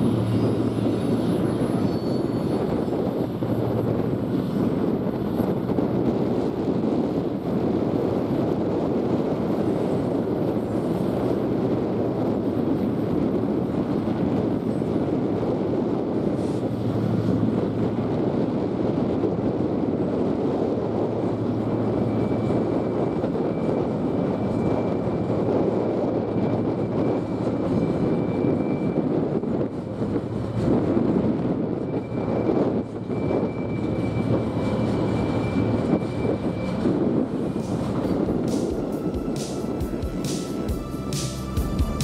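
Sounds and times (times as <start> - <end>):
freight train rumbling: 0.0 - 42.0.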